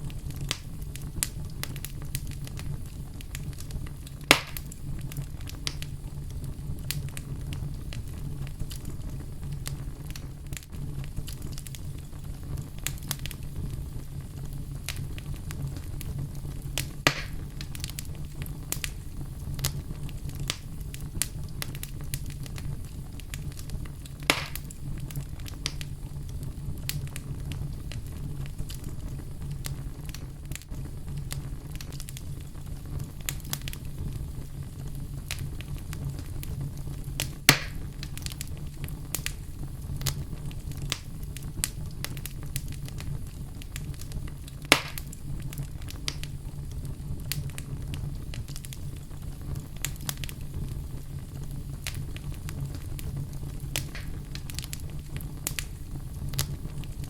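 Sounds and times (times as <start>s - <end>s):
loud fire pops: 0.0s - 57.0s
low rumble of flame: 0.0s - 57.0s
small fire crackles: 0.0s - 57.0s.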